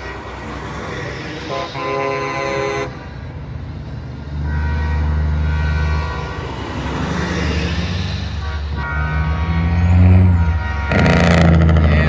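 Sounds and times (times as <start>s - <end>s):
multi-tone air horn blasting: 0.0s - 3.1s, 4.4s - 12.0s
truck diesel engine passing: 0.0s - 12.0s.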